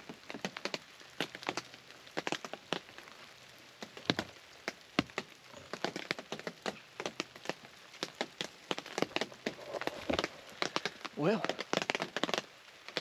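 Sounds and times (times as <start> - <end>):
faint hiss: 0.0 - 13.0
water dripping on a roof: 0.0 - 13.0.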